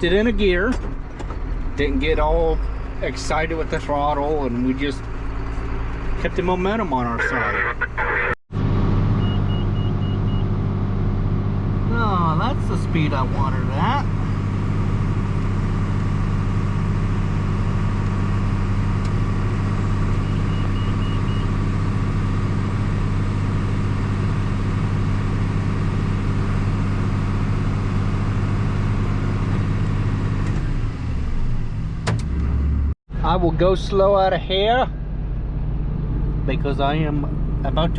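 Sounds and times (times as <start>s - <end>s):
tractor engine running steadily: 0.0s - 32.5s.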